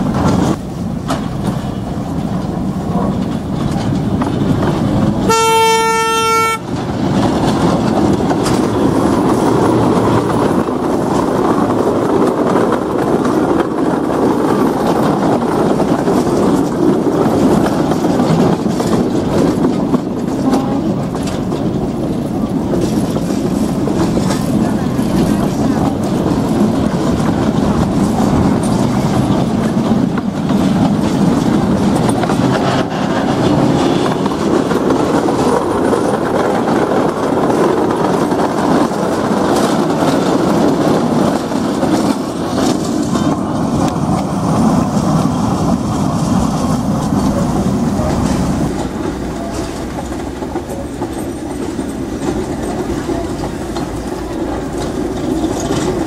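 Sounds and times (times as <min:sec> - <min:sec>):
train rumble: 0:00.0 - 0:56.0
train wheels clattering on track: 0:00.0 - 0:56.0.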